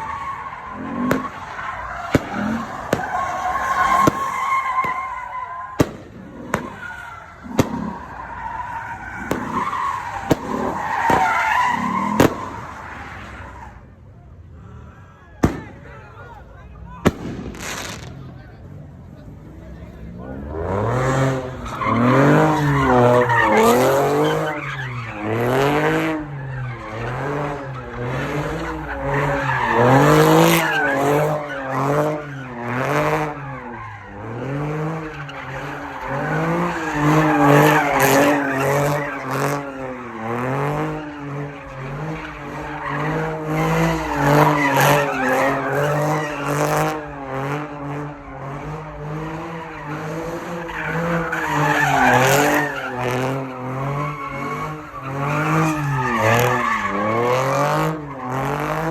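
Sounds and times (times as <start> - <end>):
car engine revving: 0.0 - 13.9, 15.4 - 58.9
tires squealing on pavement: 0.0 - 58.9.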